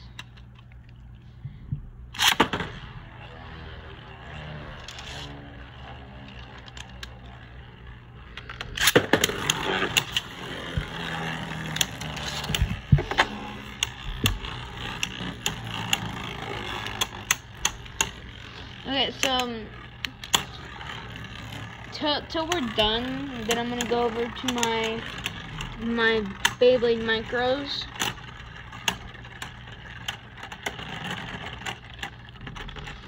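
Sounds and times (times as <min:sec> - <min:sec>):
spinning top whirr: 0:00.0 - 0:33.0
spinning tops clacking together: 0:02.2 - 0:33.0.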